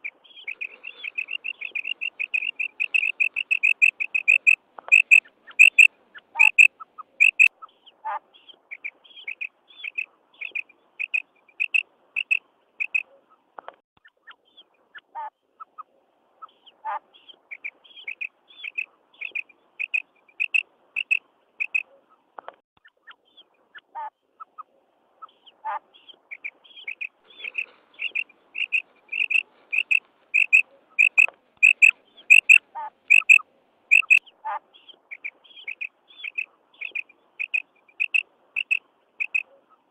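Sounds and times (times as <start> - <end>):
quail calling: 0.0 - 8.2, 8.8 - 13.1, 17.6 - 21.9, 24.0 - 39.7.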